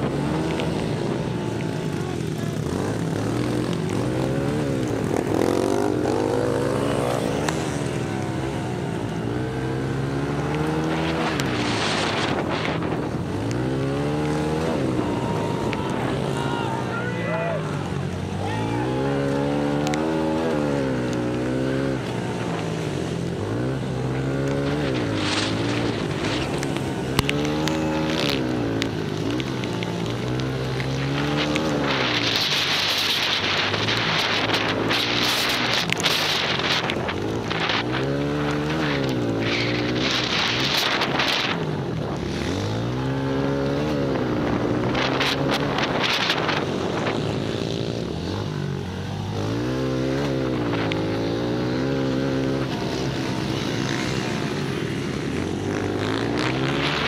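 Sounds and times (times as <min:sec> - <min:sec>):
pit bike engines revving: 0:00.0 - 0:57.0.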